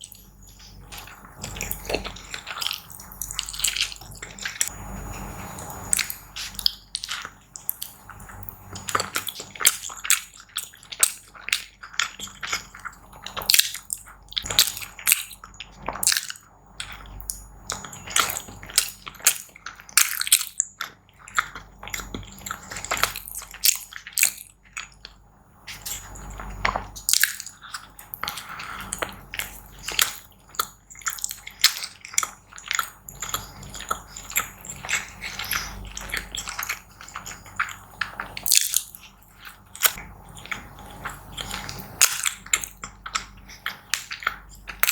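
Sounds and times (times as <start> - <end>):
person chewing and biting food: 0.0 - 44.9.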